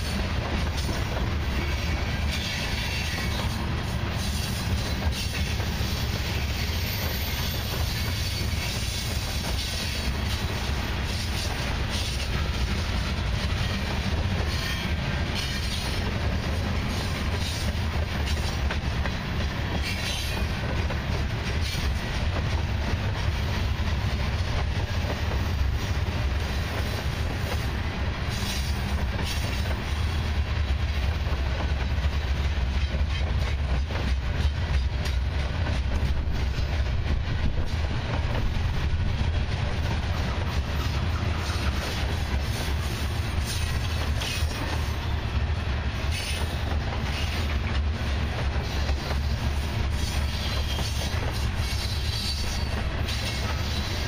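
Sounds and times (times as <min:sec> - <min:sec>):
train wheel clacks: 0:00.0 - 0:54.0
train wheels rumbling on rail: 0:00.0 - 0:54.0.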